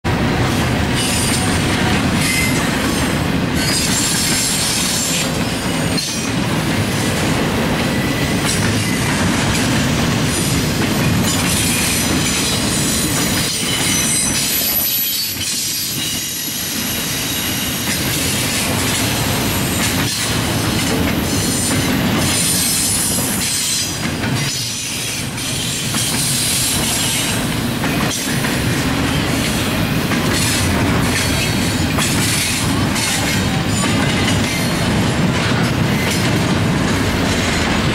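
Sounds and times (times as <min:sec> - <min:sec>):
train cars knocking: 0:00.0 - 0:37.9
train wheels rumbling on rail: 0:00.0 - 0:37.9.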